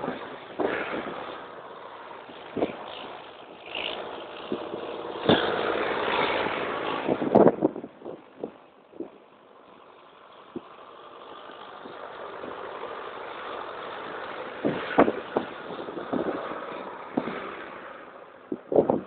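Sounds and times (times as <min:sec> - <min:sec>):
tractor engines driving past: 0:00.0 - 0:19.0.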